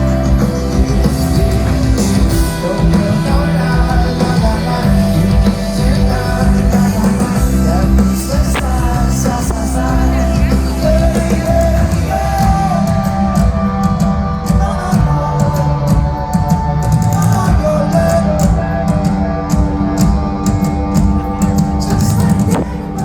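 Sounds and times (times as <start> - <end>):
live pop-rock band: 0.0 - 23.0.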